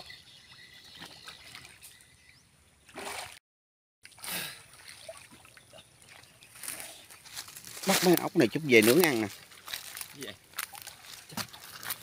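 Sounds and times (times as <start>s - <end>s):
pond water sloshing: 0.0s - 3.4s, 4.0s - 12.0s.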